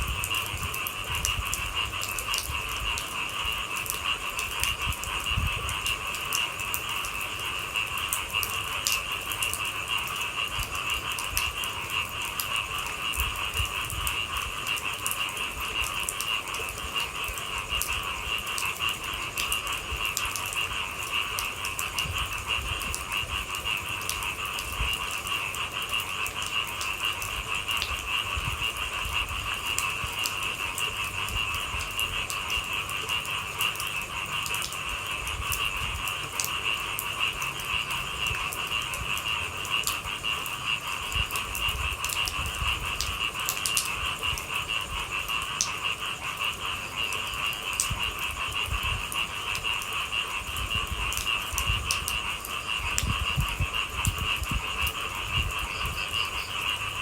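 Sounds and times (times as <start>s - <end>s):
frogs calling: 0.0s - 57.0s
raindrops tapping: 0.0s - 57.0s.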